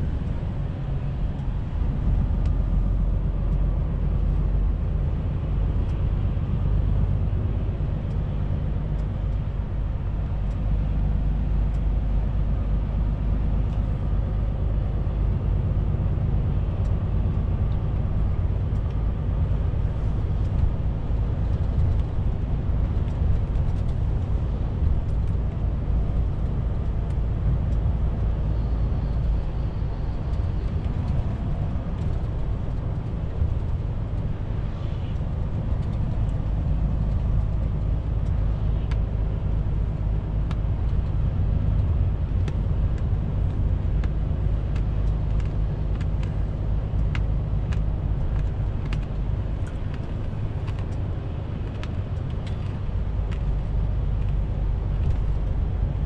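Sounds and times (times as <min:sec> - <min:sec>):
tyre and road noise: 0:00.0 - 0:56.0.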